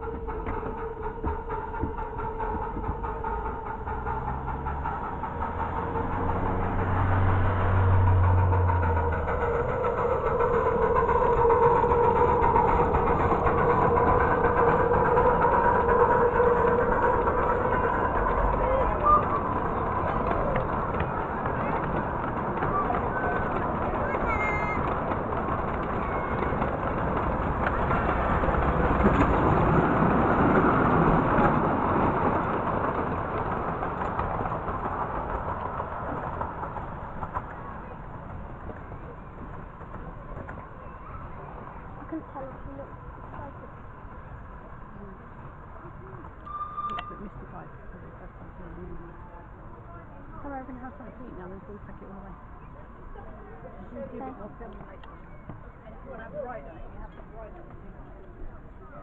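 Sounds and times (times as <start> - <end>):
engine running steadily: 0.0 - 55.2
miniature train rumbling past: 0.0 - 59.0.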